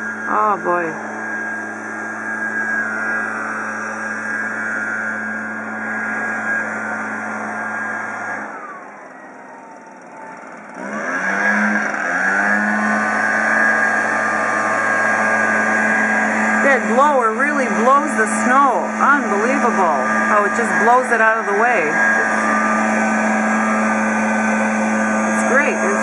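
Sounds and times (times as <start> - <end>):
backpack blower engine revving: 0.0 - 26.0.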